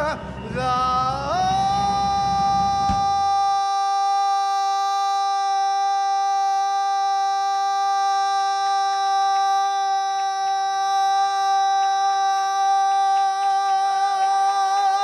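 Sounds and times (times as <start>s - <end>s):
man singing long note: 0.0s - 15.0s.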